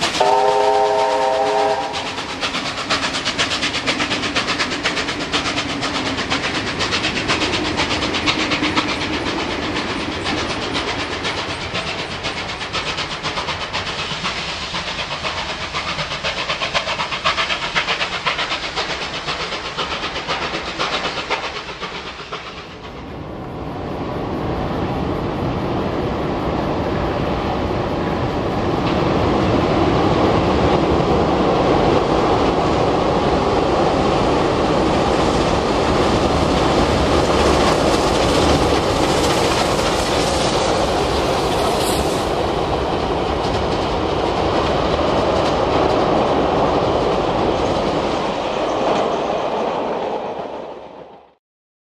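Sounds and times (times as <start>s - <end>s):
train running rumble: 0.0s - 51.4s
train wheels clickety-clack: 0.0s - 51.4s.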